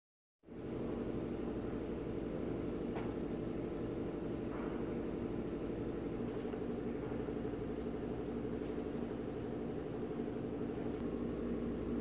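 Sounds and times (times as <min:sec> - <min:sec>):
low machine hum: 0:00.4 - 0:12.0.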